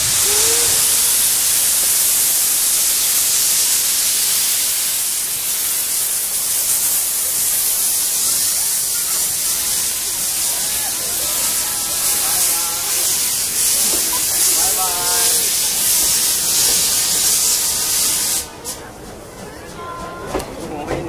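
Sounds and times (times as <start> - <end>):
steam hissing from locomotive: 0.0 - 20.7.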